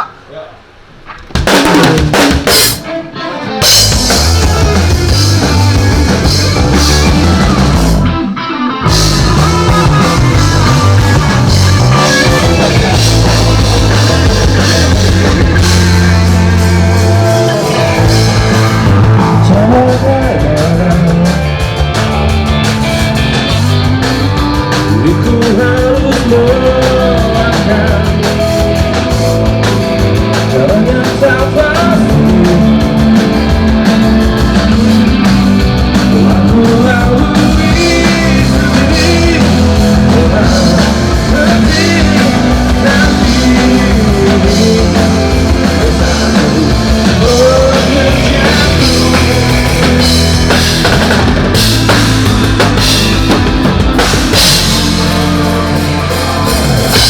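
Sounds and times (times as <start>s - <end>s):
rock band playing live: 1.3s - 57.0s.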